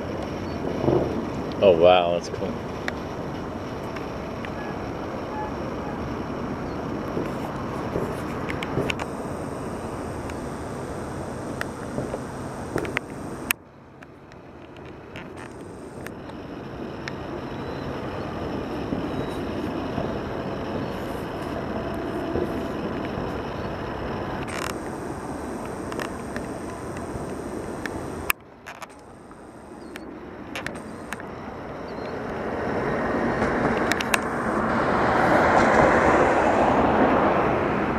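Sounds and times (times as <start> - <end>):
distant fireworks bursting: 0.0 - 37.9
outdoor rumble: 0.0 - 37.9.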